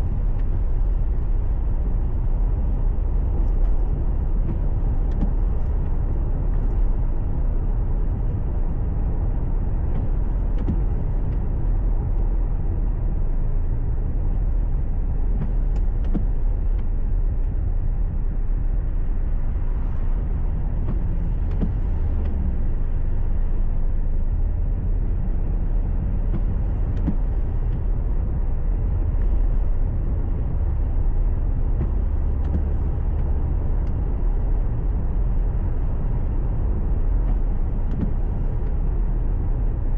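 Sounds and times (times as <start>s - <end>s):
road and engine rumble inside car: 0.0s - 39.9s.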